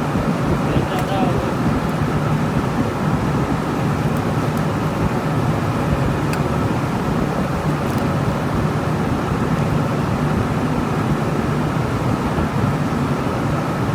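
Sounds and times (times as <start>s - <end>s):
machinery humming: 0.0s - 12.4s.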